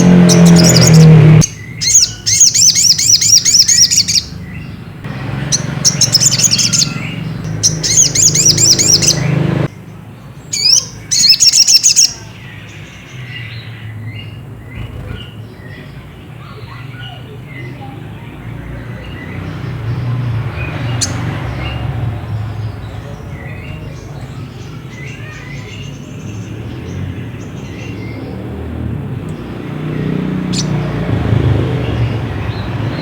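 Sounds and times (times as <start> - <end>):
bird high chirps: 0.0 - 33.0.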